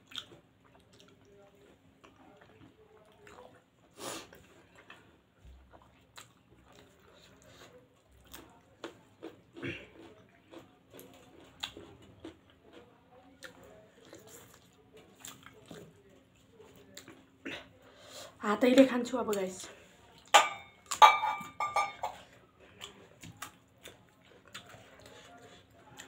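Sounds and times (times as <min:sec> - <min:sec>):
people chewing with lip smacks: 0:00.0 - 0:18.2, 0:18.8 - 0:21.1, 0:22.1 - 0:26.0.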